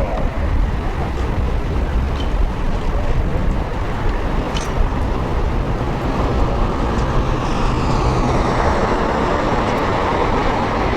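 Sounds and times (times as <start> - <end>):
jet engines roaring overhead: 0.0 - 10.9.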